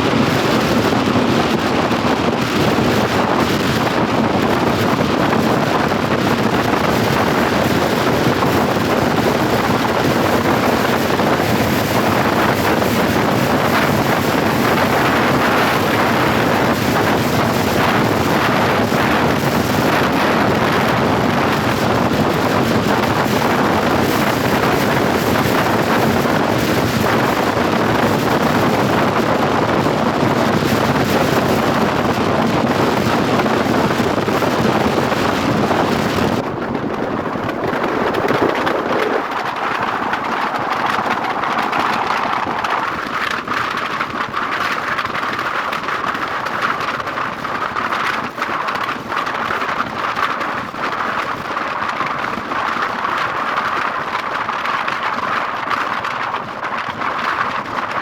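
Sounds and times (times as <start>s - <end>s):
moving vehicle running noise: 0.0s - 58.0s
wind rushing over microphone: 0.0s - 58.0s.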